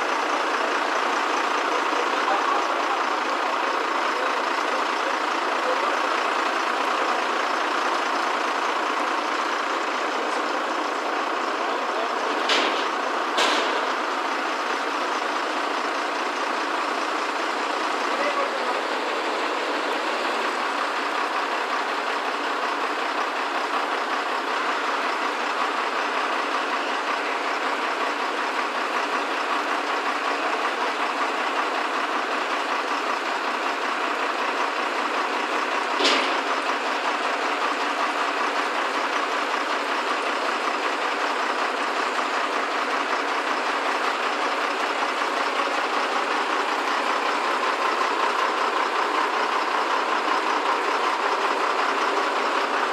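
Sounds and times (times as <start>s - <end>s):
hydraulics working: 0.0s - 52.9s
truck engine running: 0.0s - 52.9s.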